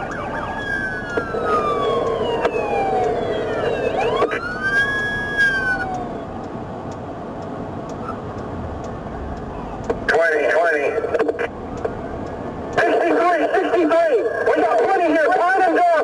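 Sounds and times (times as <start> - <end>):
police siren wailing: 0.0 - 6.5, 9.5 - 16.0.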